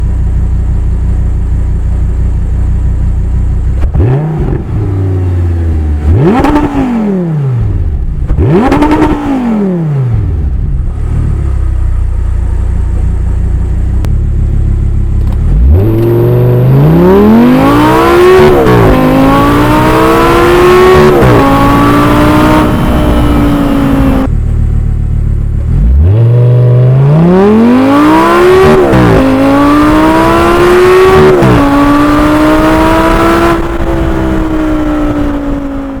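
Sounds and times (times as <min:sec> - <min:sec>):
sports car engine accelerating hard: 0:00.3 - 0:36.0.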